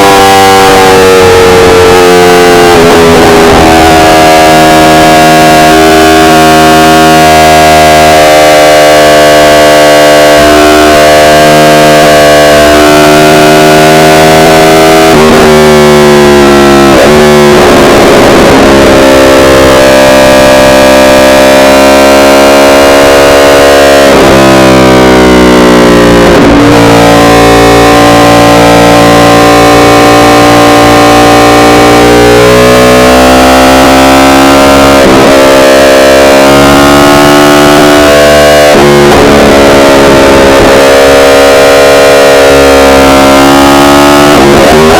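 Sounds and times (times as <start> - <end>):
motorcycle engine changing gear: 0.0 - 44.9.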